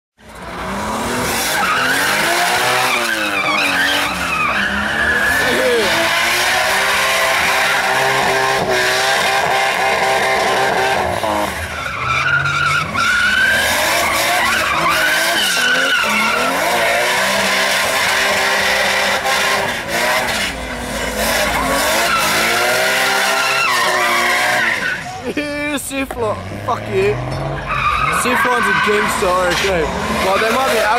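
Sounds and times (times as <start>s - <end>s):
car engine revving high: 0.2s - 25.3s, 26.2s - 30.9s
tyres skidding and squealing: 0.2s - 30.9s.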